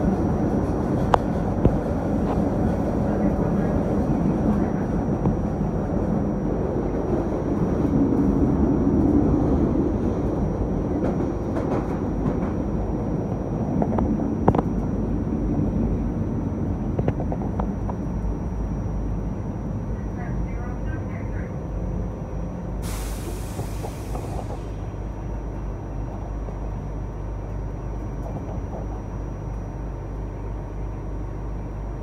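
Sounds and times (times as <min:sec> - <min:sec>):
light rail car rumbling: 0:00.0 - 0:32.0.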